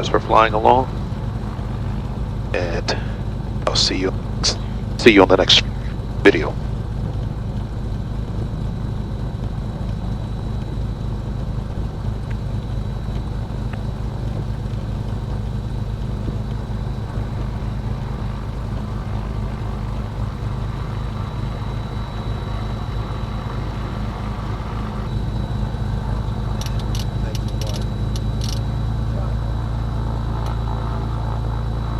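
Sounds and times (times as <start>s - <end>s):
aircraft engines droning: 0.0s - 31.9s
faint high whine: 0.0s - 31.9s.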